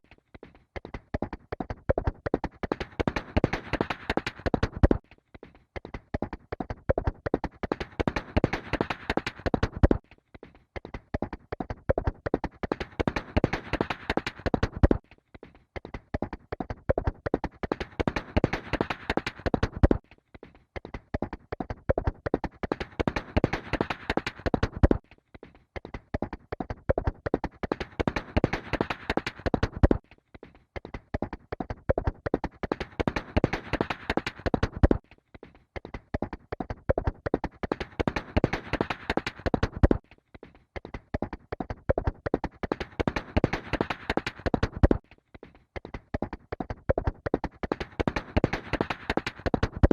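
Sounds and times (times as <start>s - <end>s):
horse hoofbeats galloping: 0.0s - 49.9s.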